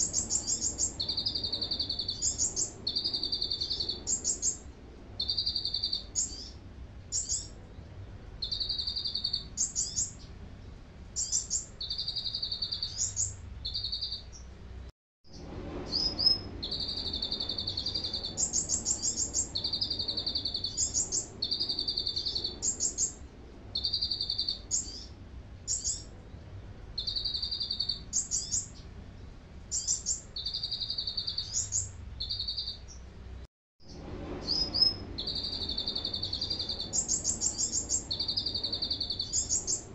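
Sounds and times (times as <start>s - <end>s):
songbird whistling and trilling: 0.0s - 7.5s, 8.4s - 10.2s, 11.2s - 14.4s, 15.9s - 23.2s, 23.8s - 25.1s, 25.7s - 26.1s, 27.0s - 28.8s, 29.7s - 33.0s, 34.4s - 39.9s.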